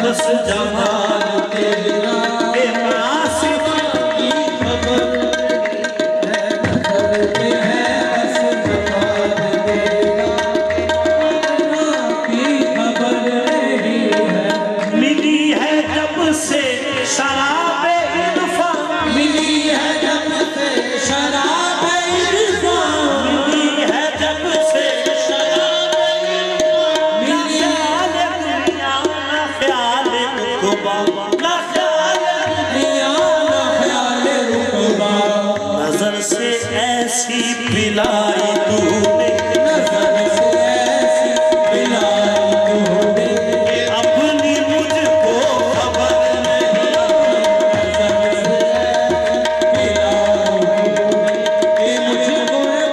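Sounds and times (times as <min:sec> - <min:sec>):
hand drums playing: 0:00.0 - 0:52.9
harmonium: 0:00.0 - 0:52.9
men singing: 0:00.0 - 0:52.9.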